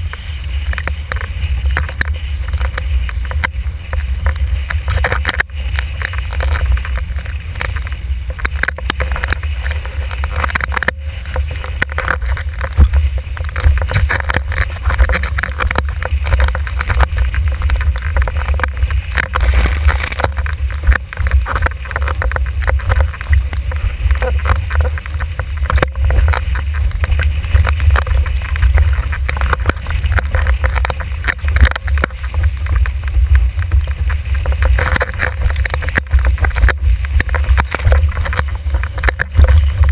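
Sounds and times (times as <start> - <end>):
hull slapping choppy water: 0.0 - 39.9
water splashing and hissing: 0.0 - 39.9
wind buffeting microphone: 0.0 - 39.9.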